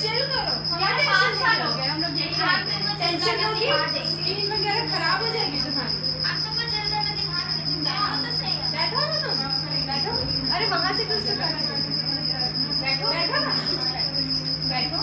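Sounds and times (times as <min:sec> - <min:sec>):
high-pitched pulsing trill: 0:00.0 - 0:15.0
steady low hum: 0:00.0 - 0:15.0
women talking indistinctly: 0:00.0 - 0:15.0.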